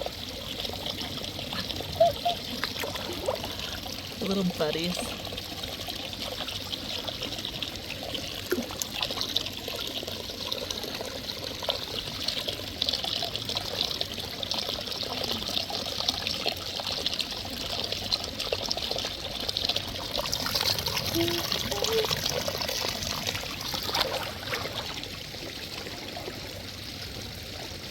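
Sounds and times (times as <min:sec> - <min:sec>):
water trickling and pouring: 0:00.0 - 0:27.9.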